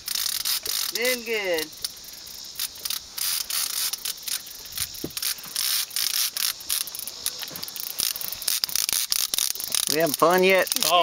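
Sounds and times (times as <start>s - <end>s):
fishing reel clicking: 0.0s - 11.0s.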